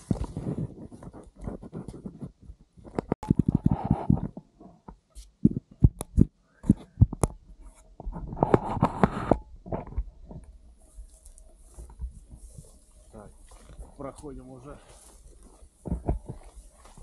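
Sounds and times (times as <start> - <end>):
crackling and rustling undergrowth: 0.0 - 17.0.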